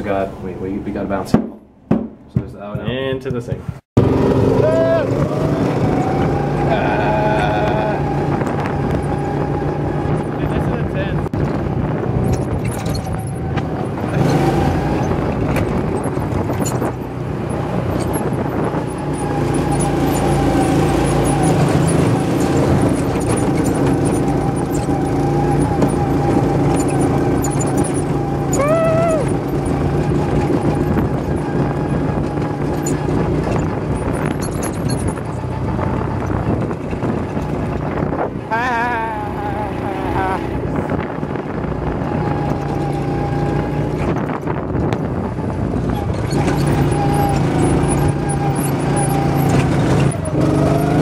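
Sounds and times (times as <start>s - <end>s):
wind on microphone: 3.6s - 51.0s
go-kart engine running: 4.0s - 51.0s.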